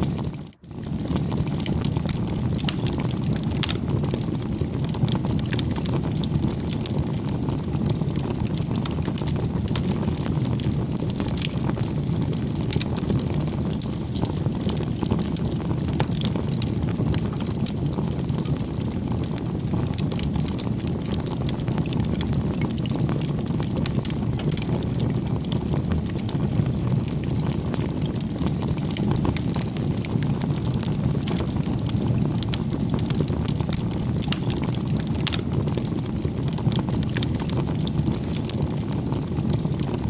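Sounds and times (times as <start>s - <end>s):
bonfire crackling: 0.0s - 40.0s.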